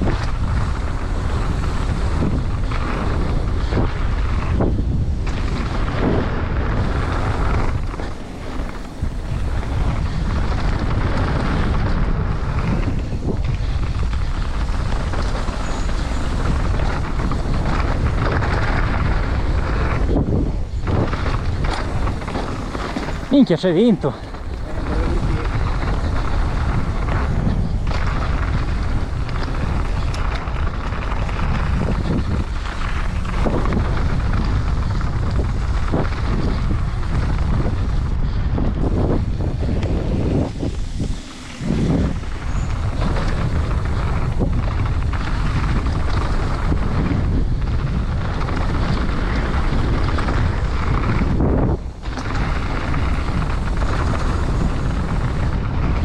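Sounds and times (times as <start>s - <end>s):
mountain bike rattling on dirt trail: 0.0s - 56.0s
wind on microphone: 0.0s - 56.0s.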